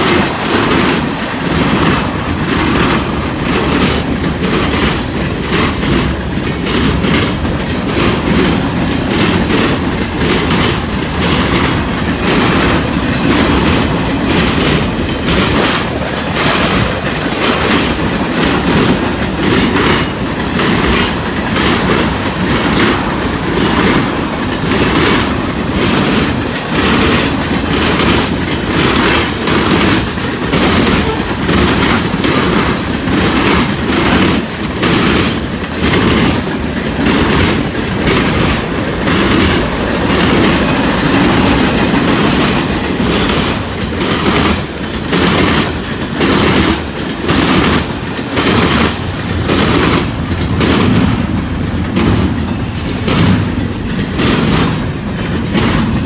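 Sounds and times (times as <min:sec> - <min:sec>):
train wheels clacking over rail joints: 0:00.0 - 0:56.0.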